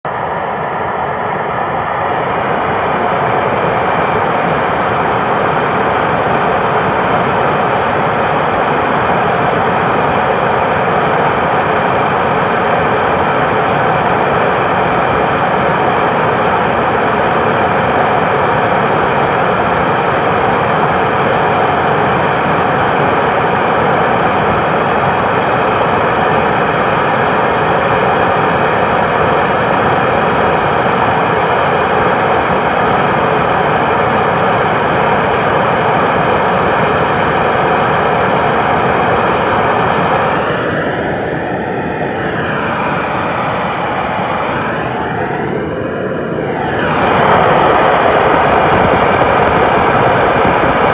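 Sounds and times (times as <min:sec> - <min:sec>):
blower rushing air: 0:00.0 - 0:50.9.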